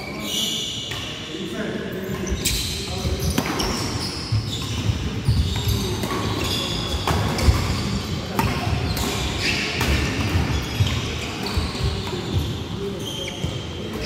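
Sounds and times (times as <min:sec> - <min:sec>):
shoe squeaks on wooden floor: 0:02.2 - 0:14.0.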